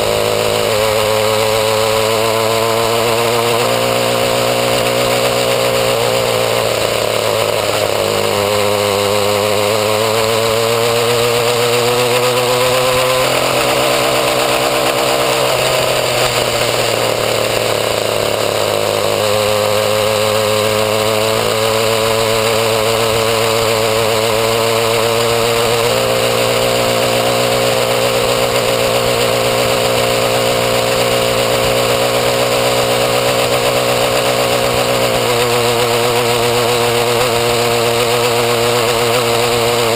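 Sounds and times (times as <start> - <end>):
two-stroke motorbike engine revving: 0.0 - 39.9.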